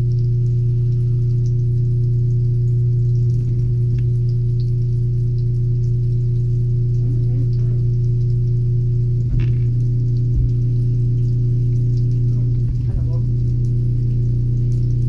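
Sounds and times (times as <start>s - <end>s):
loud steady low hum: 0.0s - 15.0s.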